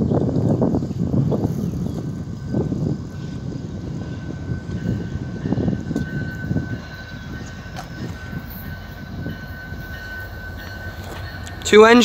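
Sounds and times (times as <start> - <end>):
diesel locomotives rumbling: 0.0 - 12.0.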